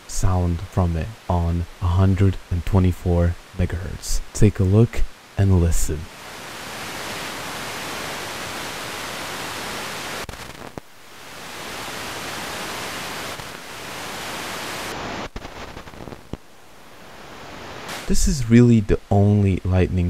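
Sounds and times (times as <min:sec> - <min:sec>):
radio static hiss: 0:00.0 - 0:20.0
sharp static clicks: 0:00.0 - 0:20.0.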